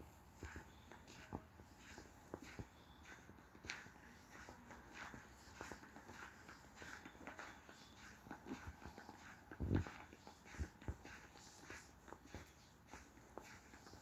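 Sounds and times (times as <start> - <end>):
faint footsteps walking: 0.0 - 14.0.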